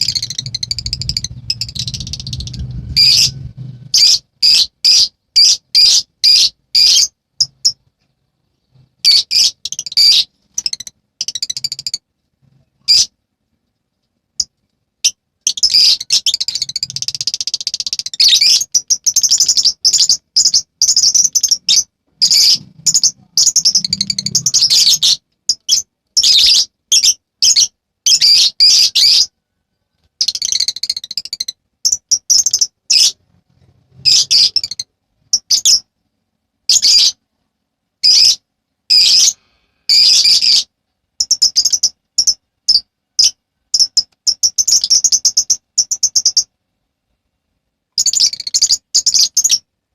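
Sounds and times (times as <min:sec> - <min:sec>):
lovebird chattering chirps: 0:00.0 - 0:07.8, 0:09.0 - 0:12.0, 0:12.8 - 0:13.1, 0:15.0 - 0:29.3, 0:30.2 - 0:33.2, 0:34.0 - 0:35.8, 0:36.7 - 0:37.2, 0:38.0 - 0:46.5, 0:48.0 - 0:49.6.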